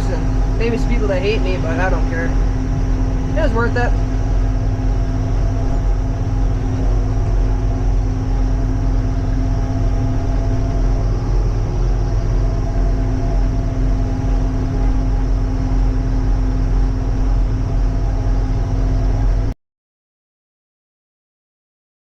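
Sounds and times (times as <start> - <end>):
tractor engine running steadily: 0.0 - 19.6.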